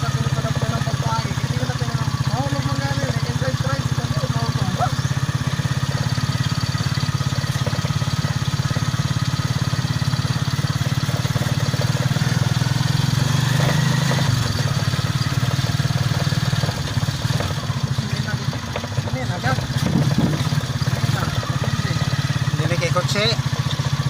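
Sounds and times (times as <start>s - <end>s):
small engine pulsing: 0.0s - 24.0s.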